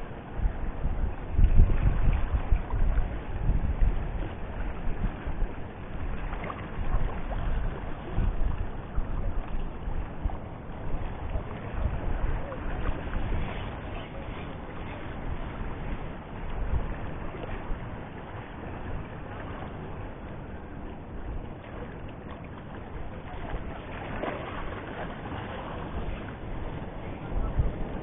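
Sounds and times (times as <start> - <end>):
sea wash: 0.0 - 28.0
wind buffeting microphone: 0.0 - 28.0.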